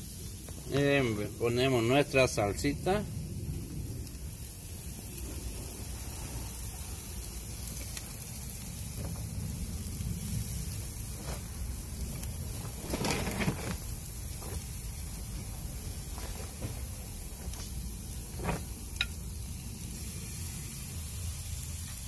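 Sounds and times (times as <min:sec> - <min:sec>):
food sizzling on a grill: 0:00.0 - 0:22.0.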